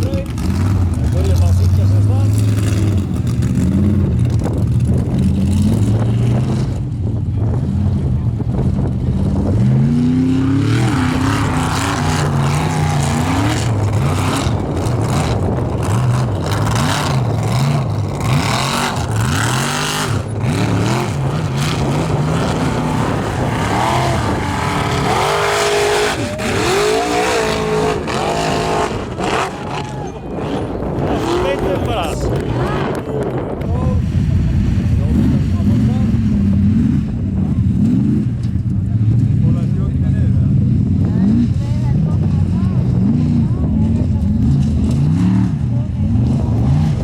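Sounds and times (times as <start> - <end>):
truck engine revving hard: 0.0 - 47.0.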